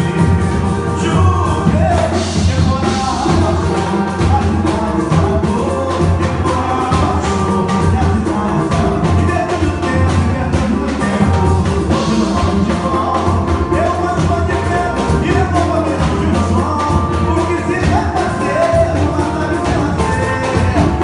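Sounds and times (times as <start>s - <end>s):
bass line: 0.0s - 21.0s
keyboard: 0.0s - 21.0s
percussion: 0.0s - 21.0s
person singing: 0.0s - 21.0s.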